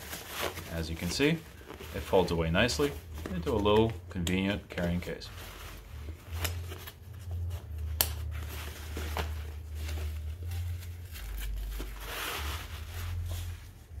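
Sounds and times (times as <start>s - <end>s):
nylon fabric rustling: 0.0s - 14.0s.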